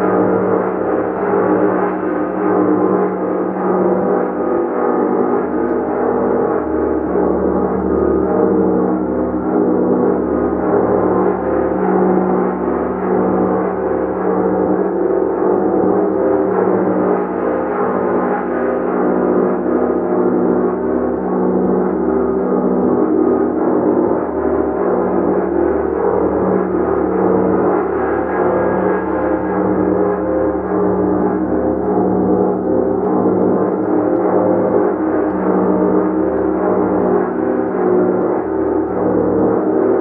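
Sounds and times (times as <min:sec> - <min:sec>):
large gong sustained wash: 0:00.0 - 0:40.0.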